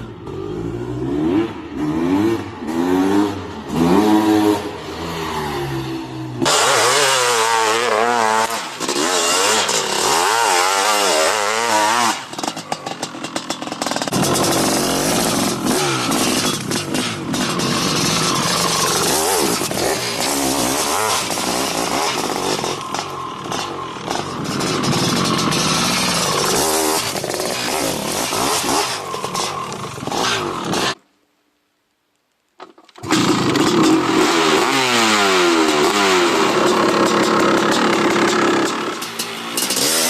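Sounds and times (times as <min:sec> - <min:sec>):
two-stroke motorcycle engine revving: 0:00.0 - 0:31.0, 0:33.0 - 0:40.0.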